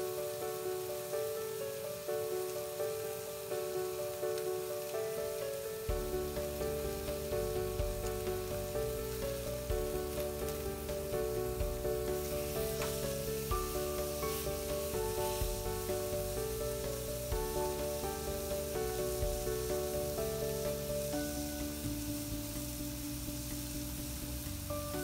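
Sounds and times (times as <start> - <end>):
background music: 0.0 - 25.0
steaks sizzling in frying pan: 0.0 - 25.0.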